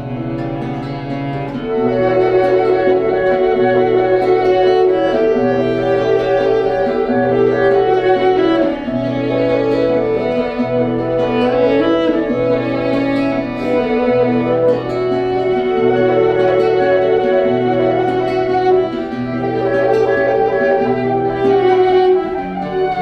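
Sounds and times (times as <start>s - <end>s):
sustained melody notes: 0.0s - 23.0s.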